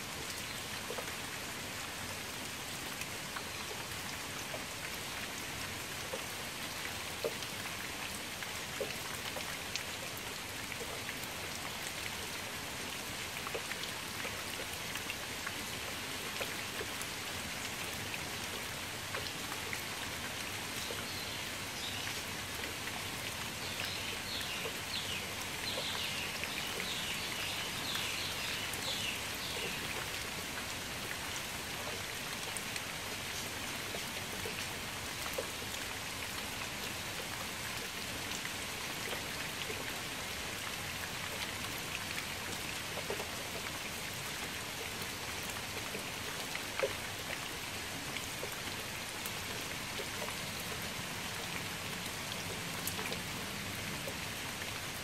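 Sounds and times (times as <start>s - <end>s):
rain falling into a puddle: 0.0s - 55.0s.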